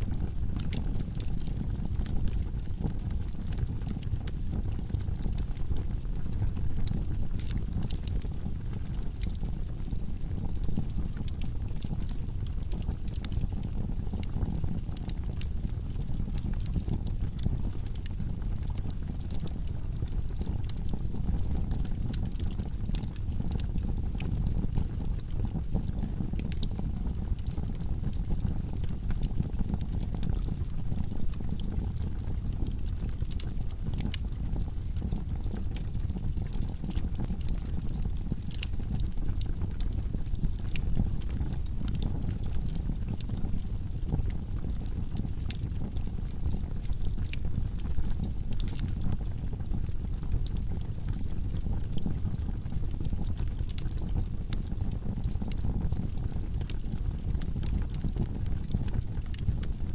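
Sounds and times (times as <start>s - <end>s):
fire crackles and pops: 0.0s - 59.9s
wood logs burning: 0.0s - 59.9s.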